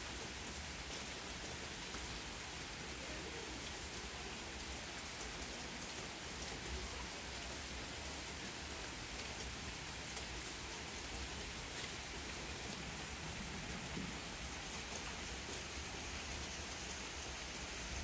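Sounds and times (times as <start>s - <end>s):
rain on plants and paving: 0.0s - 18.0s.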